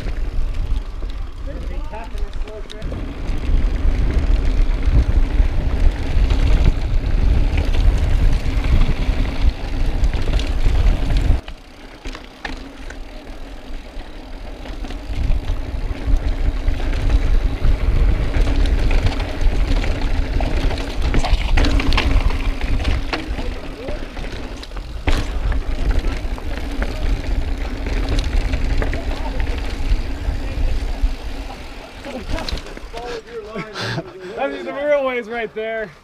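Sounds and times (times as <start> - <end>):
wind buffeting microphone: 0.0 - 11.4, 14.8 - 32.6
tyres rolling over dirt and rock: 0.0 - 33.6
bike clicks and rattles: 0.0 - 34.0.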